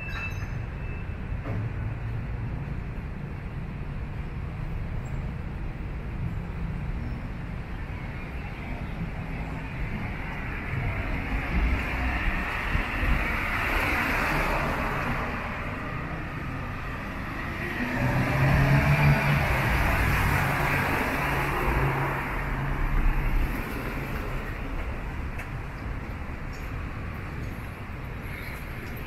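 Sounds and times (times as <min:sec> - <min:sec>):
traffic passing: 0:00.0 - 0:29.0.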